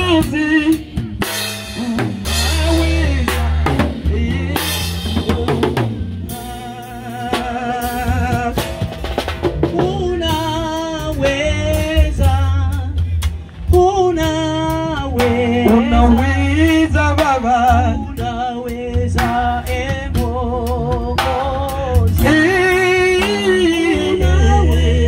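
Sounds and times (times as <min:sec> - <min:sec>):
drum kit struck with sticks: 0:00.0 - 0:25.0
steady deep bass: 0:00.0 - 0:25.0
worship band playing live: 0:00.0 - 0:25.0
voices singing a melody: 0:01.7 - 0:13.0, 0:13.7 - 0:25.0.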